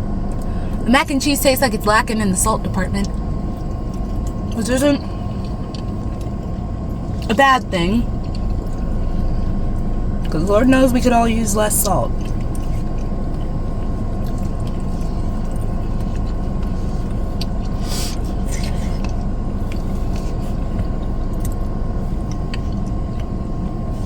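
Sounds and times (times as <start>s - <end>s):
car engine idling: 0.0s - 24.0s
chewing food: 3.0s - 7.3s, 8.0s - 11.0s, 11.7s - 24.0s.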